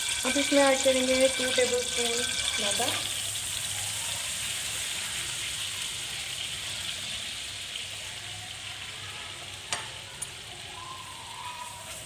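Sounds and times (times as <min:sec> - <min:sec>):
butter and oil sizzling: 0:00.0 - 0:12.0.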